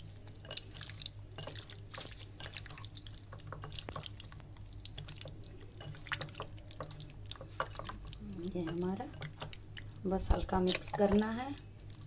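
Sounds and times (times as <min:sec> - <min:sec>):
low steady hum: 0:00.0 - 0:12.0
wet squelches of mixing chicken: 0:00.0 - 0:12.0.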